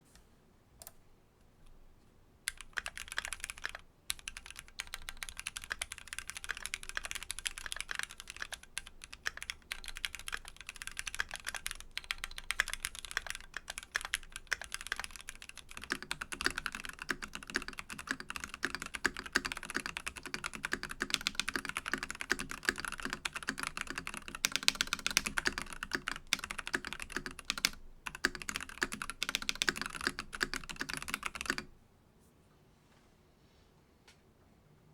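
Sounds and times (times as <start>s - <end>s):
mechanical keyboard typing: 2.5s - 31.7s.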